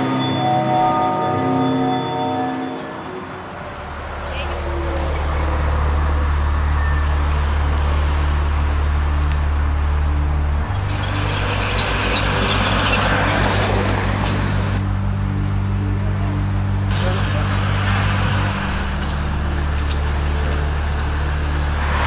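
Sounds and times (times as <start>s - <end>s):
vehicle engine idling: 3.0s - 22.0s.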